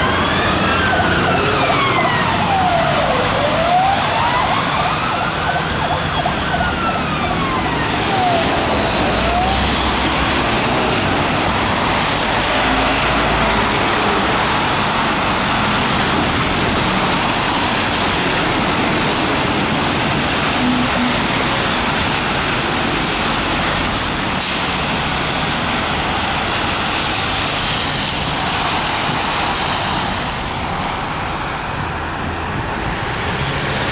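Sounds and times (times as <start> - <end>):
fire engine siren wailing: 0.0 - 31.2
city traffic noise: 0.0 - 33.9.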